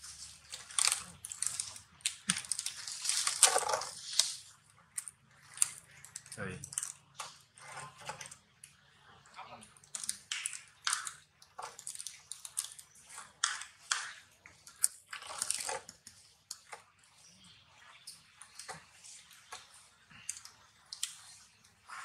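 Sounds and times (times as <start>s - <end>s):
soft crunching and rustling: 0.0s - 22.0s.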